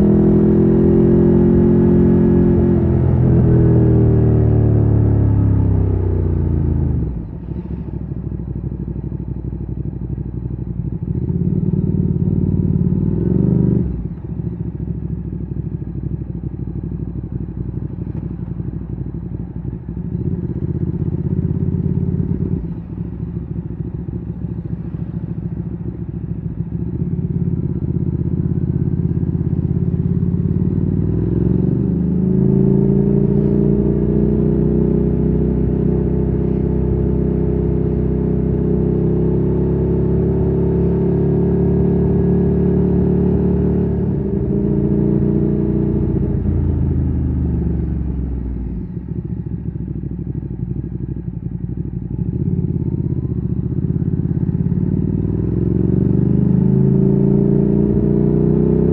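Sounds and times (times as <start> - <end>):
motorcycle engine revving: 0.0 - 7.9, 10.4 - 18.4, 19.2 - 58.9.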